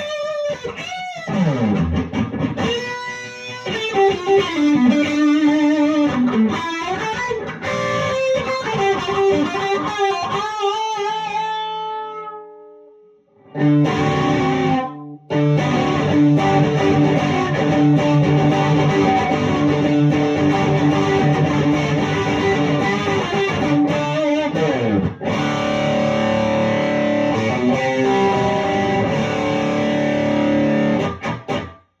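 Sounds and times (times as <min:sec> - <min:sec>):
distorted electric guitar: 0:00.0 - 0:31.8.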